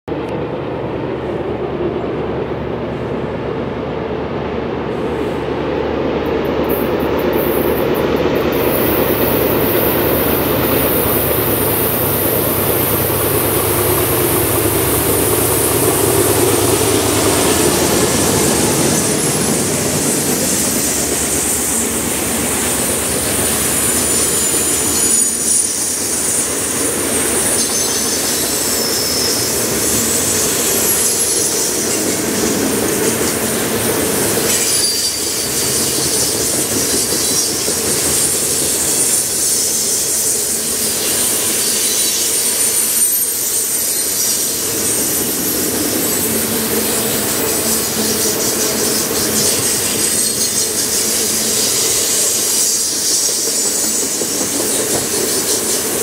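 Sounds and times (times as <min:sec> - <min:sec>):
diesel locomotives rumbling: 0:00.1 - 0:56.0
wheels on rails: 0:06.2 - 0:56.0.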